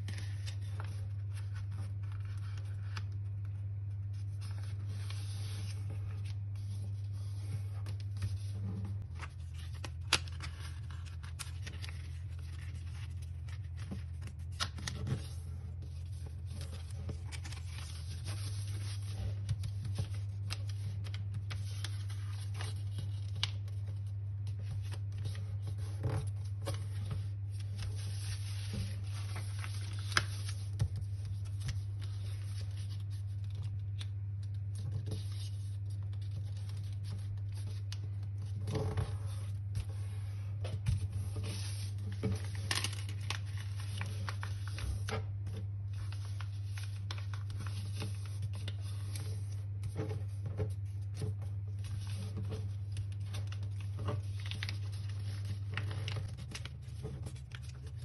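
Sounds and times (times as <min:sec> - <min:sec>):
paper rustling and crinkling: 0:00.0 - 0:58.0.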